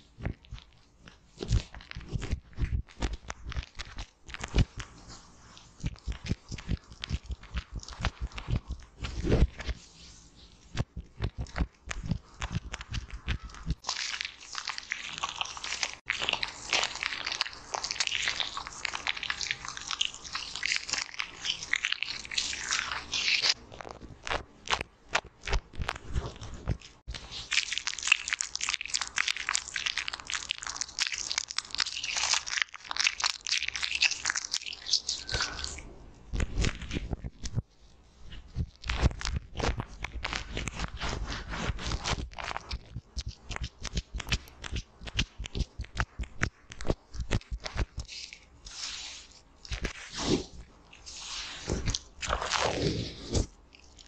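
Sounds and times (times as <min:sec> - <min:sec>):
hands squishing cleanser foam: 0:00.0 - 0:23.6, 0:24.2 - 0:35.8, 0:38.3 - 0:54.0.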